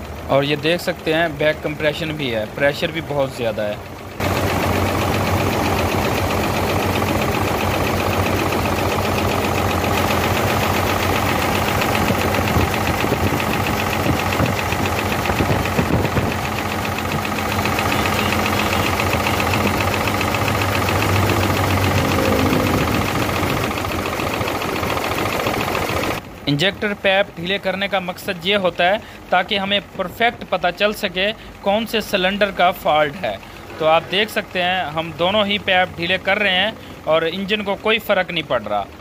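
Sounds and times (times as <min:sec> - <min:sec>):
diesel engine knocking: 0:00.0 - 0:39.0.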